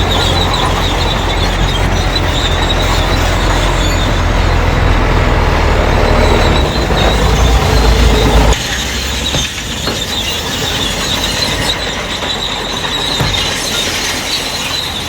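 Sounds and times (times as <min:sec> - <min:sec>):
bulldozer diesel engine drone: 0:00.0 - 0:15.0
steel tracks squealing: 0:00.0 - 0:15.0.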